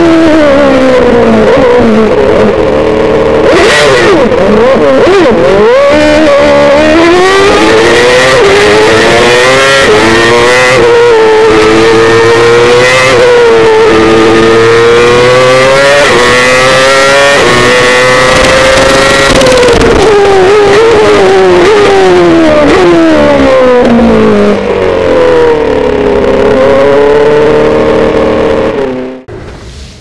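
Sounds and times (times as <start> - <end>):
racing car engine: 0.0 - 30.0.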